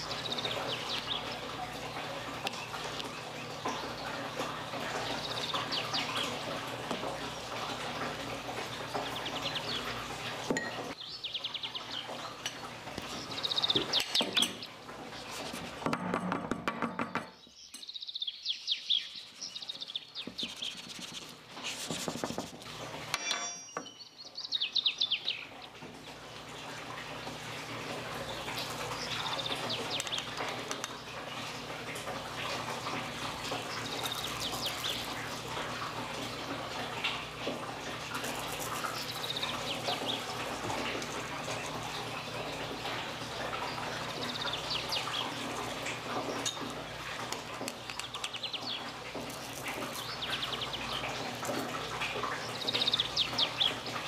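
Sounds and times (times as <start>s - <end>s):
birds chirping in trills: 0.0s - 15.4s, 17.1s - 21.2s, 23.2s - 54.0s.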